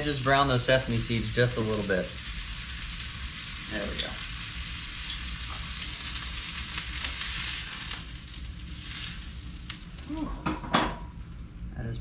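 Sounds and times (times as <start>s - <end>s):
oil sizzling in frying pan: 0.0s - 12.0s.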